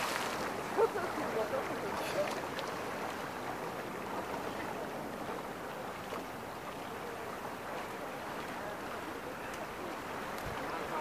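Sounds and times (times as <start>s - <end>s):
steady wash of moving water: 0.0s - 11.0s
water splashing around swimmer: 0.0s - 11.0s.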